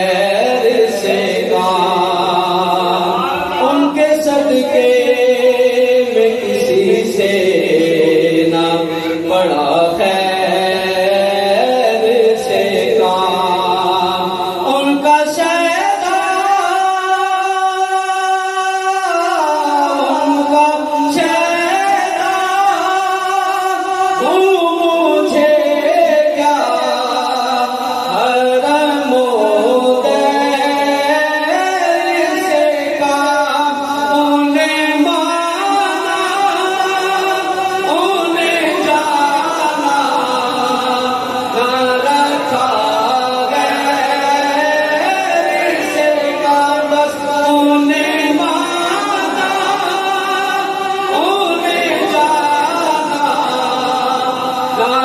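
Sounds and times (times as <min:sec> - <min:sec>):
man singing unaccompanied: 0:00.0 - 0:55.0.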